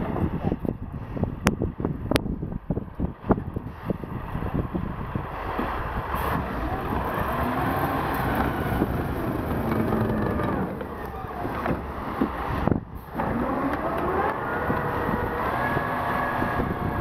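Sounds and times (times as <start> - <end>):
tracked vehicle engine under load: 0.0 - 17.0.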